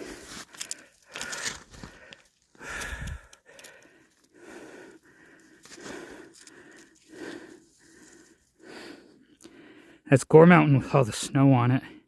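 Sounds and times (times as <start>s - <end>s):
person breathing heavily: 0.0s - 10.1s.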